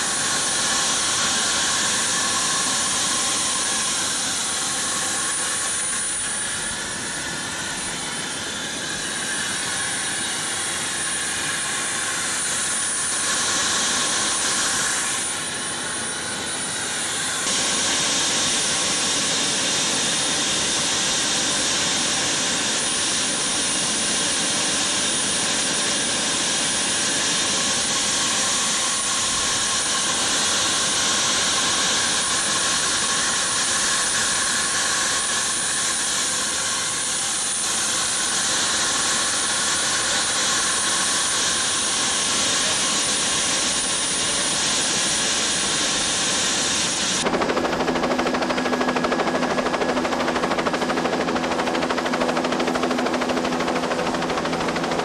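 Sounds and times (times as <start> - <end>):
helicopter turbine running: 0.0 - 55.0.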